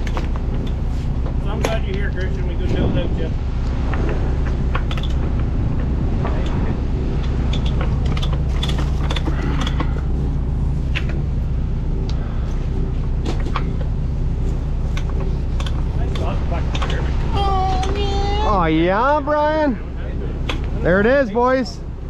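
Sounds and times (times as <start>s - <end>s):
heavy equipment engine idling: 0.0s - 22.0s.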